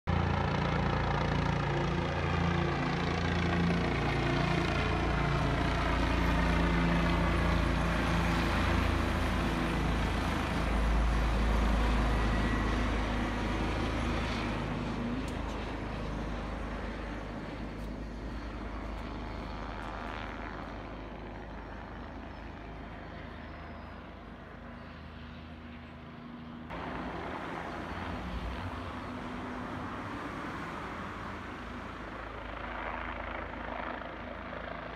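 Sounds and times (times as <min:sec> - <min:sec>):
helicopter flying over: 0:00.1 - 0:34.9.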